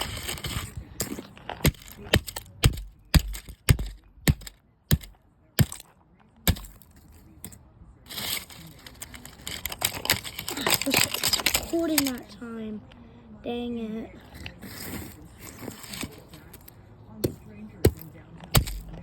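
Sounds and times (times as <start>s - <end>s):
rustling: 0.0s - 12.4s, 14.2s - 19.0s.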